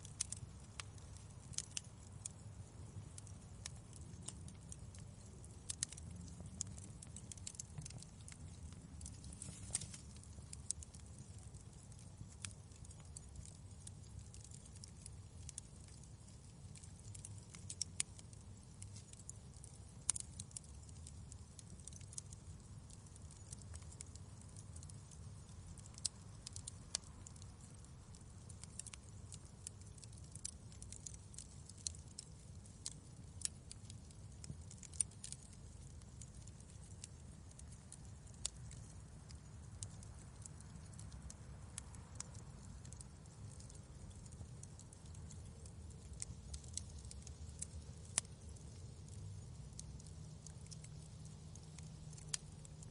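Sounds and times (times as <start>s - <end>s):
fire crackling: 0.0s - 52.9s.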